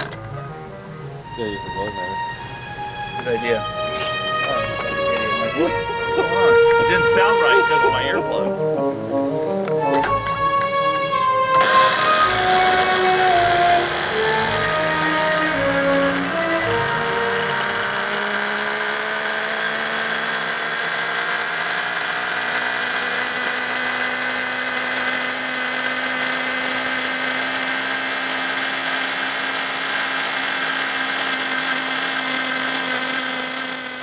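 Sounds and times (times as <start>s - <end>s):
model engine high-pitched whine: 1.4s - 8.4s, 9.8s - 34.0s.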